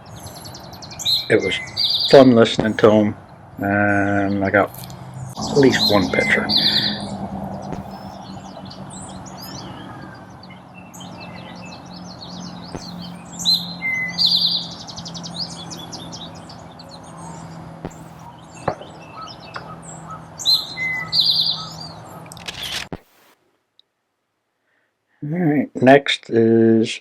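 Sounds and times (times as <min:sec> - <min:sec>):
bird song with buzzy trill: 0:00.0 - 0:22.8
small birds chirping: 0:00.0 - 0:23.3.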